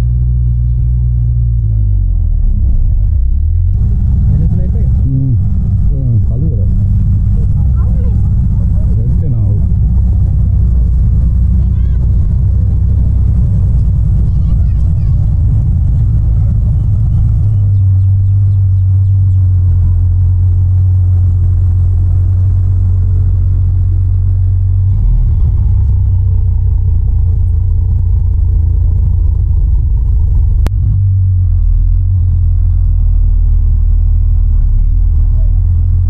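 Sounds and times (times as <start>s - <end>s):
truck diesel engine rumbling: 0.0s - 36.0s.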